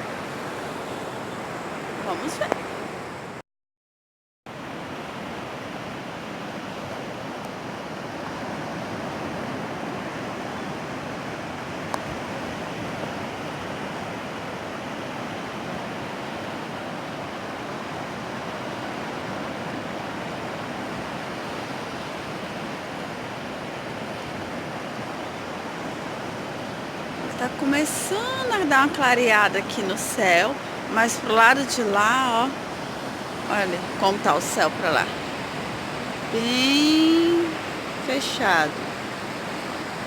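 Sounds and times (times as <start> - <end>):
surf washing onto beach: 4.6 - 40.0.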